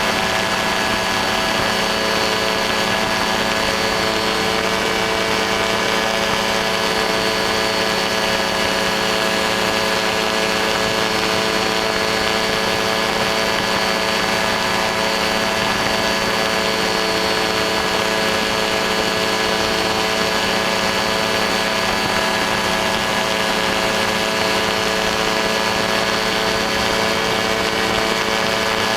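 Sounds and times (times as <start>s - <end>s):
aircraft engine and propeller drone: 0.0s - 28.9s.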